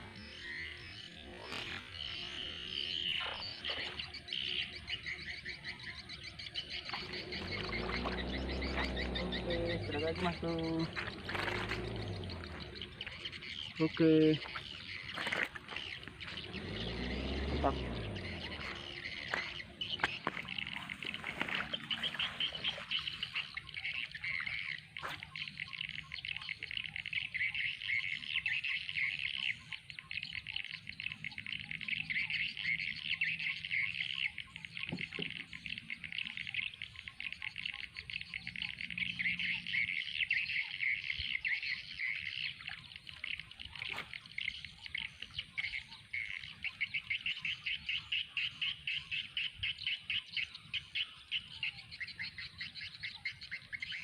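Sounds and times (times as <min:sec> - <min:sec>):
chorus of rapid high chirping: 0:00.0 - 0:54.0.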